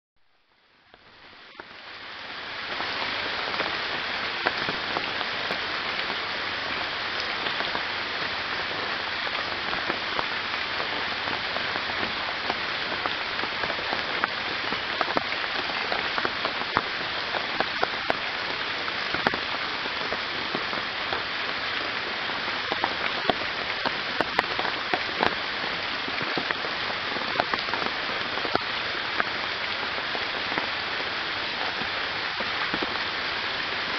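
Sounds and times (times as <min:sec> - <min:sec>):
heavy rain on foliage and water: 0:00.2 - 0:33.9.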